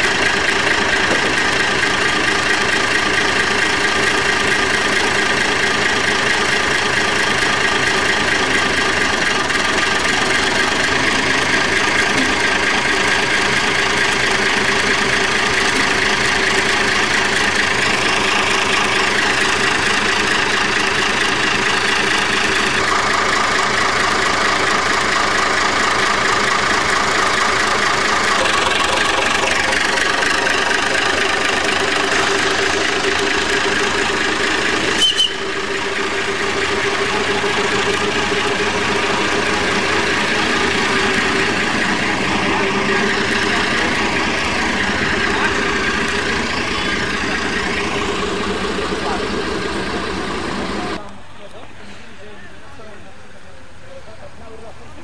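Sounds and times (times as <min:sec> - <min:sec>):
locomotive diesel engine running: 0:00.0 - 0:55.0.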